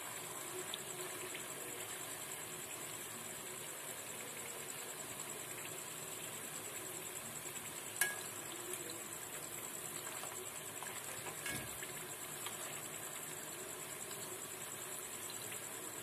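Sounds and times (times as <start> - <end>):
oil sizzling and bubbling: 0.0 - 16.0.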